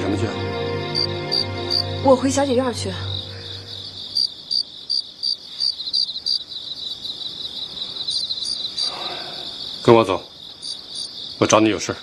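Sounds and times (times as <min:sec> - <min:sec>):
crickets chirping: 0:00.5 - 0:12.0.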